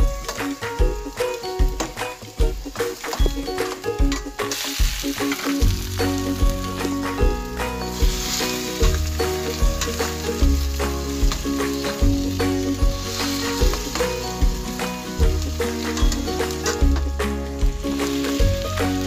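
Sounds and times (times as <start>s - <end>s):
background music with steady beat: 0.0s - 19.0s
food sizzling in hot oil: 0.0s - 19.0s.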